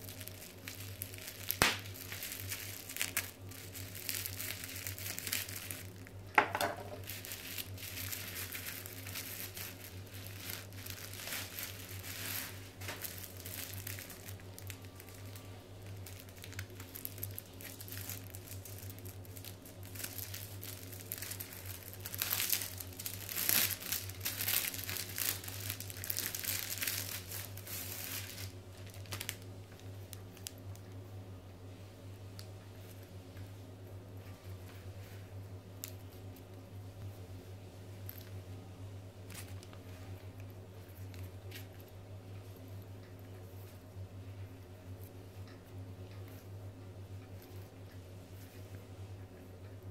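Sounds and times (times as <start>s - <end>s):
bubble wrap and plastic crinkling: 0.0s - 31.1s, 31.7s - 33.6s, 37.9s - 38.5s, 39.2s - 46.5s.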